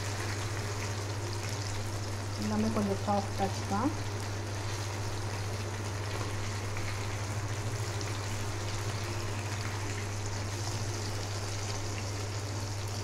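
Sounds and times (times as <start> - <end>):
food sizzling and bubbling in oil: 0.0 - 13.0.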